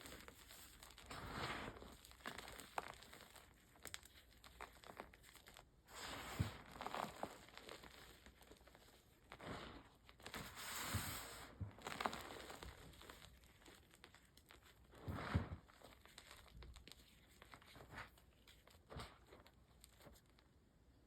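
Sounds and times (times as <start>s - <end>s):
chalk crushed and crumbled by hand: 0.0s - 20.5s.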